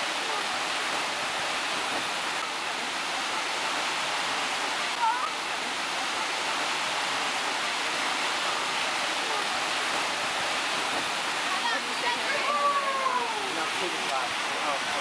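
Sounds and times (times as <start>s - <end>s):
water rushing down slide: 0.0s - 15.0s.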